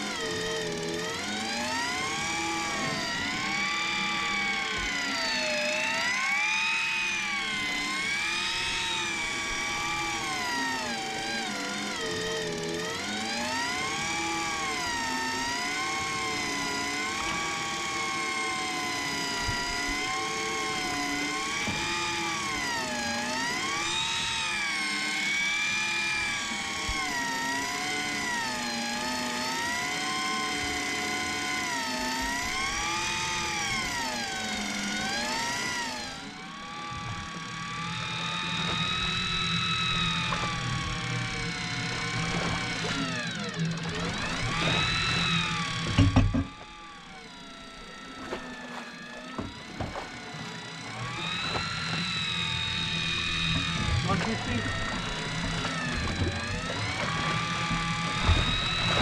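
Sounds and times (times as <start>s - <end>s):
electric fishing reel motor whine: 0.0s - 59.0s.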